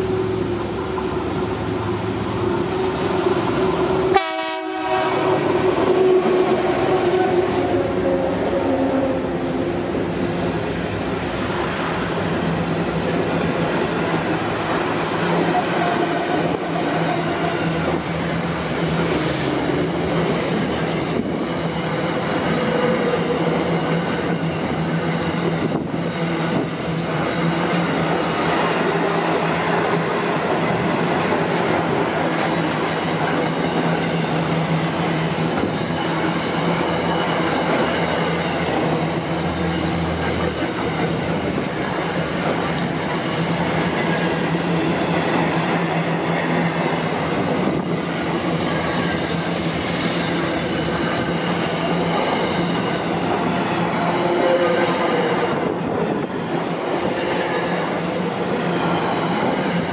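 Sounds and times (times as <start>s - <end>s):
diesel locomotive engine passing: 0.0s - 59.9s
train wheels rolling on rails: 0.0s - 59.9s.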